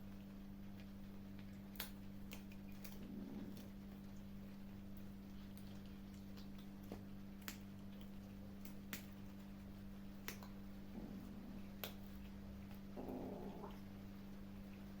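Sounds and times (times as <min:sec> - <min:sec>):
kittens crunching food: 0:00.0 - 0:15.0.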